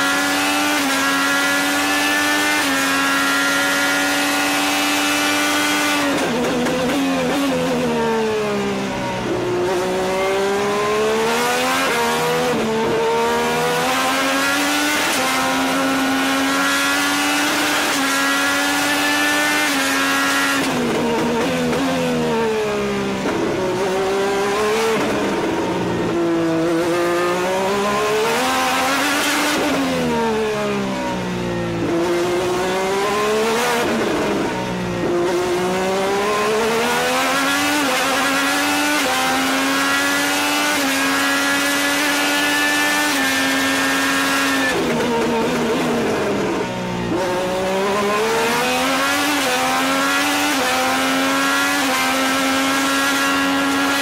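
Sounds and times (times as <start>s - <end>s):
racing car engine shifting gears: 0.0s - 54.0s.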